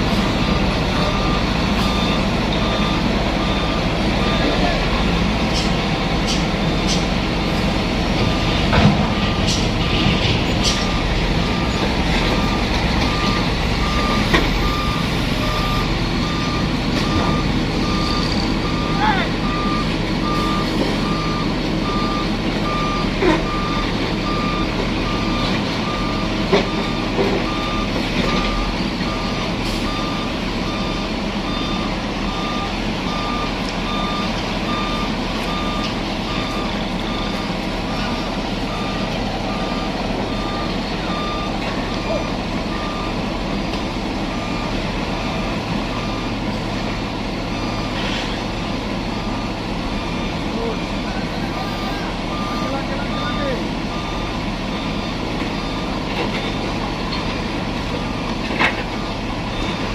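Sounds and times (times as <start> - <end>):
truck engine running: 0.0 - 59.9
truck reversing alarm beeping: 0.0 - 59.9.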